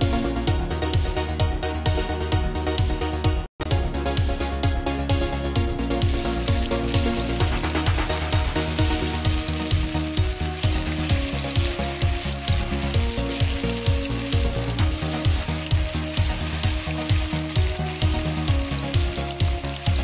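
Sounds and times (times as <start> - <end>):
music with electronic beat: 0.0 - 20.0
chicken deep-frying in oil: 0.1 - 20.0.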